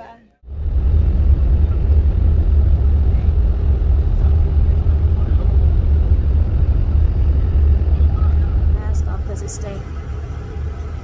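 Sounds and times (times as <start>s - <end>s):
bus engine and road noise: 0.5s - 11.0s.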